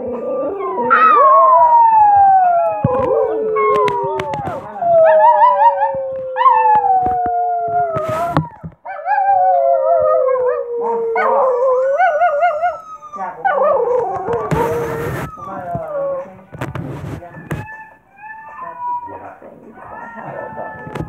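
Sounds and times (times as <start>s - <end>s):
small dog howling: 0.0s - 16.4s, 17.3s - 21.0s.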